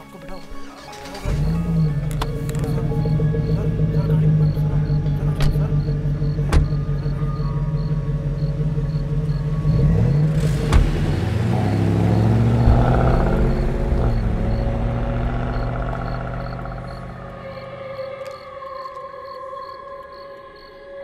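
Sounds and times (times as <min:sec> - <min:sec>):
car engine revving and driving off: 0:00.3 - 0:18.5.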